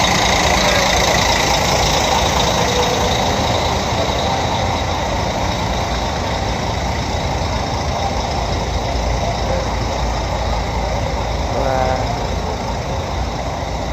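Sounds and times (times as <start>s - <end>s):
diesel engines idling: 0.0s - 13.9s.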